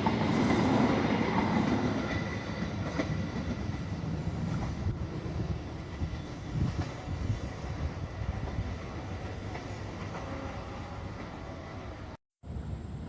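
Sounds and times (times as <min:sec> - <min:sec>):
train wheels rumbling: 0:00.0 - 0:12.8.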